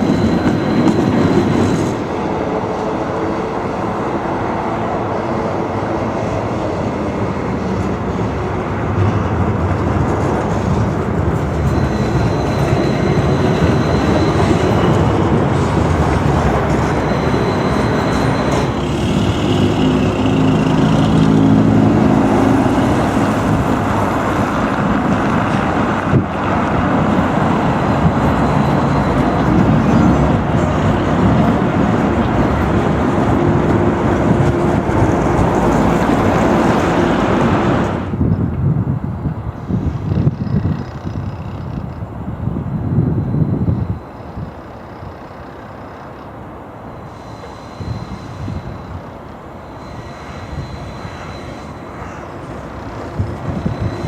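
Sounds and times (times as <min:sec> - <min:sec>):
tram wheels rumbling on rails: 0:00.0 - 0:54.0.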